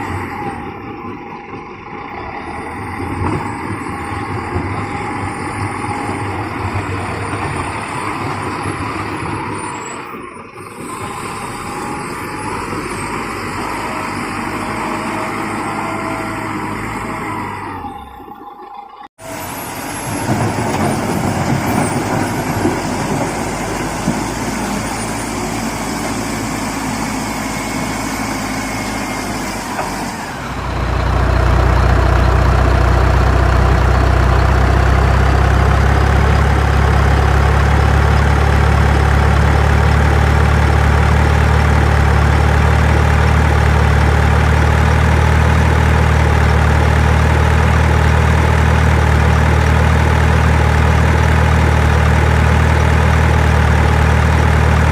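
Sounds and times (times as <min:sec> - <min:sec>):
heavy vehicle engine running: 0:00.0 - 0:54.9.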